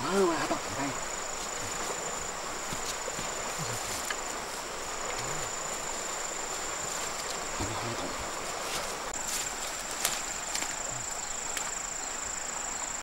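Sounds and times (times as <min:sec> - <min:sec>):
insects droning: 0:00.0 - 0:13.0
river rushing: 0:00.0 - 0:13.0.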